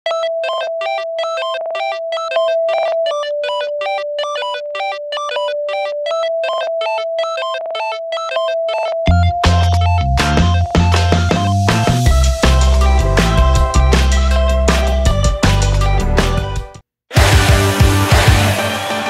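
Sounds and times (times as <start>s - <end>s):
synthesizer music: 0.1s - 19.0s.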